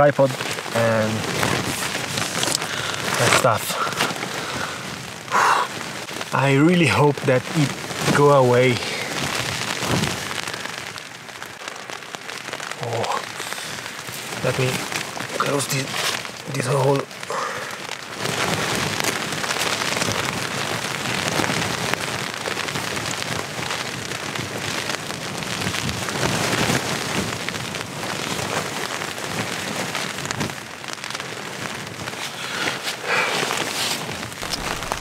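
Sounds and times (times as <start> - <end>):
rain on tent fabric: 0.0 - 35.0.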